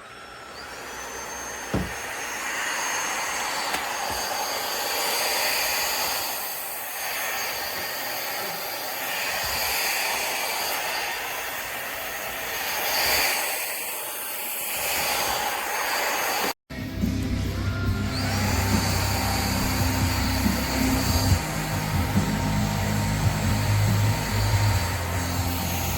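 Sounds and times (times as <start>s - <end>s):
stick vacuum motor whine: 0.0s - 25.9s.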